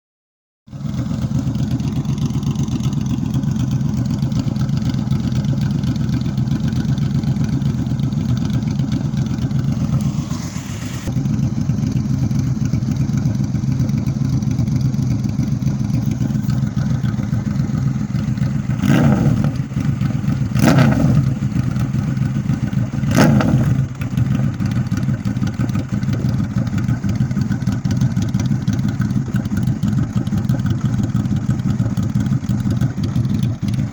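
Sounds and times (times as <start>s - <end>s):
motorcycle engine idling: 0.7s - 33.9s.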